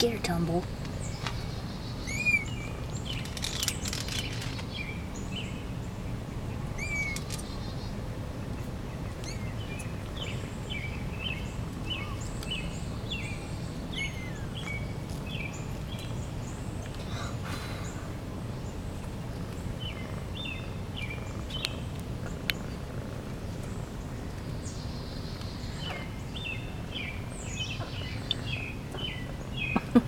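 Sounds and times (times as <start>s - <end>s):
low background hum: 0.0s - 30.0s
small birds chirping: 0.0s - 30.0s.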